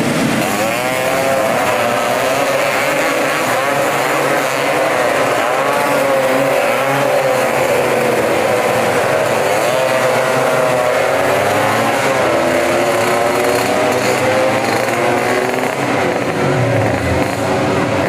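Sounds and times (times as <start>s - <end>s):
scooter engines revving: 0.0s - 18.0s.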